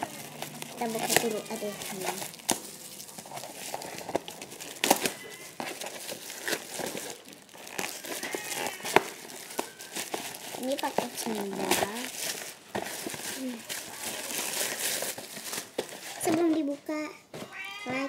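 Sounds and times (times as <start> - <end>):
plastic bag crinkling: 0.0 - 16.8.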